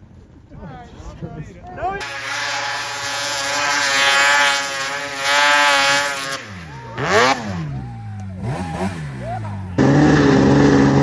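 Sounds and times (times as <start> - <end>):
snowmobile engine revving: 2.0 - 11.0.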